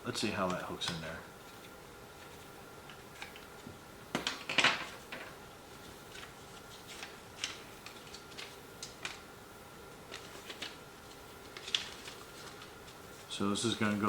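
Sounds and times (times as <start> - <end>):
paper pages rustling: 0.3 - 9.3, 9.9 - 14.0.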